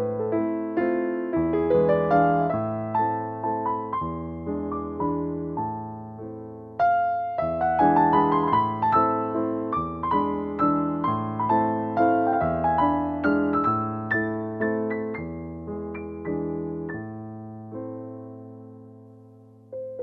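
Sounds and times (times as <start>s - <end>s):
gentle keyboard music: 0.0s - 20.0s.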